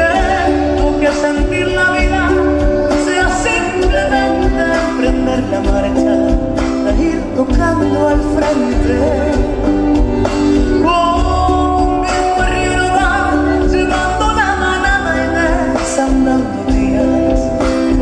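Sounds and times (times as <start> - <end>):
folk song singing: 0.0 - 18.0
instrumental accompaniment: 0.0 - 18.0.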